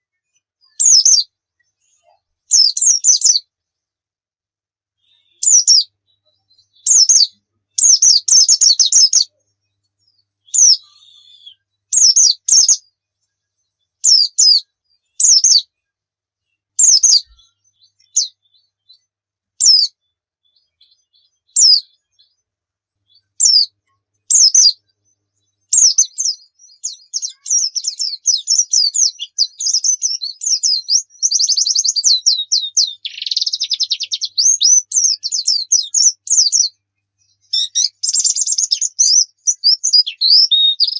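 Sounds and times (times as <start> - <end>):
bird chirping and twittering: 0.3 - 3.5, 5.0 - 15.7, 16.6 - 22.5, 23.1 - 40.9.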